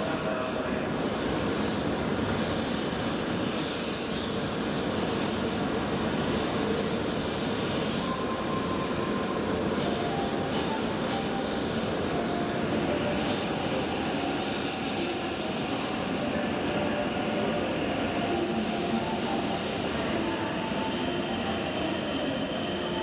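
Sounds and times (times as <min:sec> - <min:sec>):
train wheels on rail: 0:00.0 - 0:23.0.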